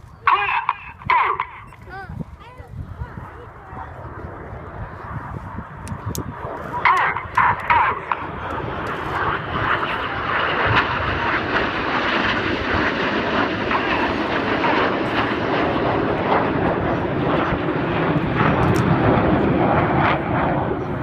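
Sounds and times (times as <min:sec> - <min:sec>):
jets flying past: 0:00.3 - 0:21.0.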